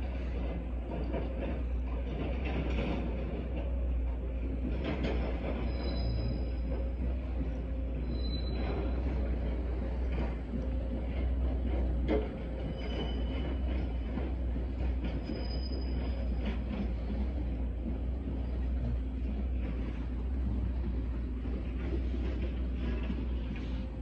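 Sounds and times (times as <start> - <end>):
train rumbling on tracks: 0.0 - 24.0.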